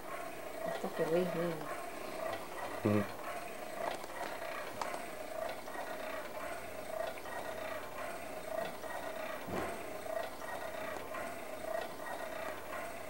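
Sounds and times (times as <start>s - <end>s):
baby swing mechanism clicking and whirring: 0.0s - 13.0s.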